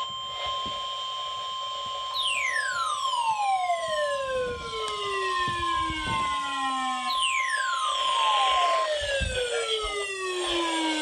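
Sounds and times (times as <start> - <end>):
steady alarm tone: 0.0 - 11.0
siren-like tone sliding down: 2.2 - 11.0.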